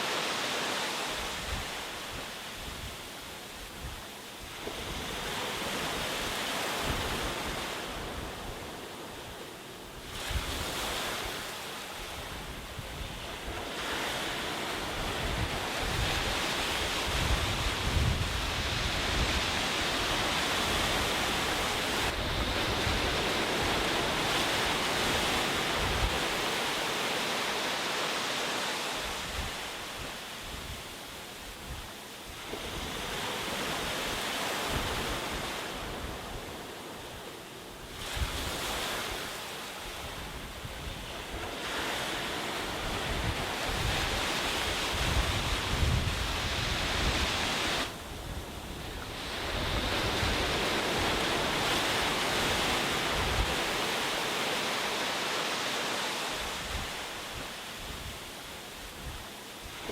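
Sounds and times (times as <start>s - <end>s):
sea waves breaking: 0.0s - 59.9s
wind on microphone: 0.7s - 27.6s, 28.8s - 59.9s.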